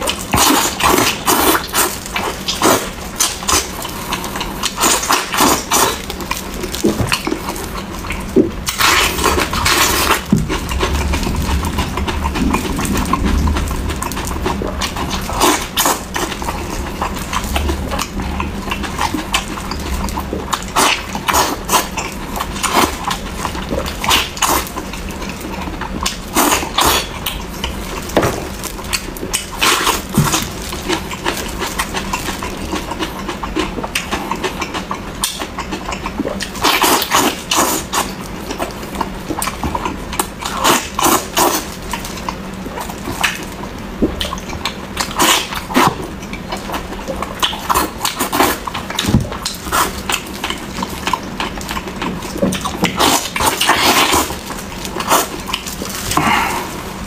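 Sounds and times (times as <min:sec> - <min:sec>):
wet chewing and lip-smacking: 0:00.0 - 0:57.0.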